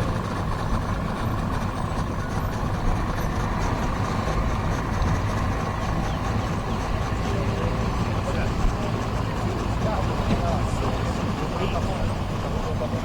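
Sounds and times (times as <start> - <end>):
boat engines rumbling: 0.0 - 13.0.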